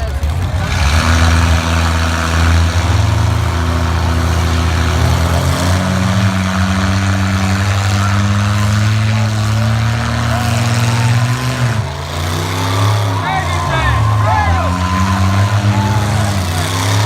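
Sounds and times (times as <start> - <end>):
truck engines droning: 0.0 - 17.0.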